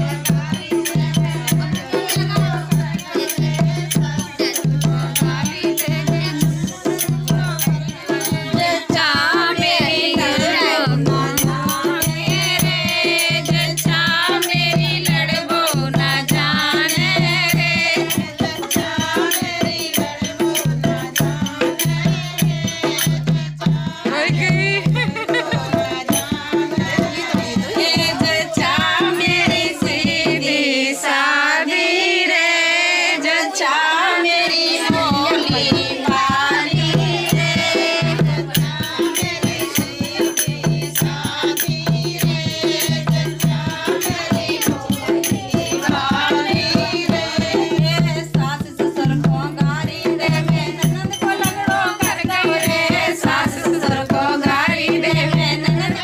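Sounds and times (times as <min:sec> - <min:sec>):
hand drum beat: 0:00.0 - 0:30.6, 0:34.5 - 0:56.0
women singing folk song: 0:00.0 - 0:56.0.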